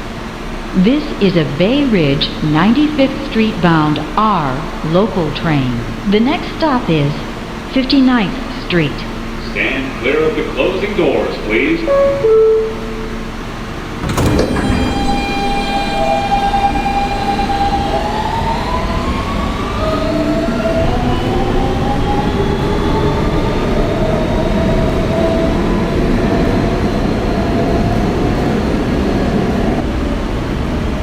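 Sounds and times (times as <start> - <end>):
subway train motor whine: 0.0 - 31.0
track rumble: 0.0 - 31.0.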